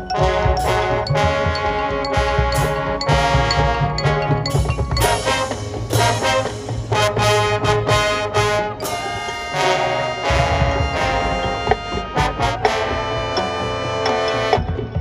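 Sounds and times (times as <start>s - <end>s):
low bass notes: 0.0s - 15.0s
marching band brass playing: 0.0s - 15.0s.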